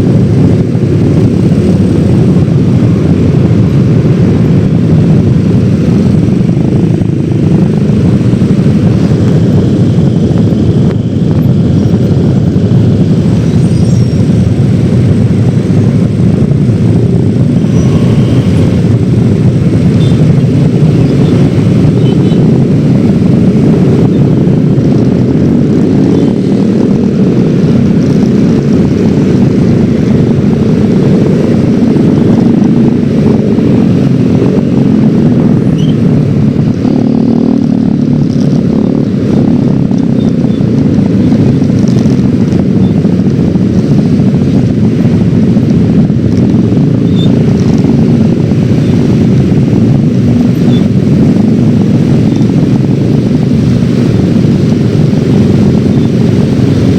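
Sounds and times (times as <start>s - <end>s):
scooter engine running: 0.0s - 56.9s
wind and road noise: 0.0s - 56.9s.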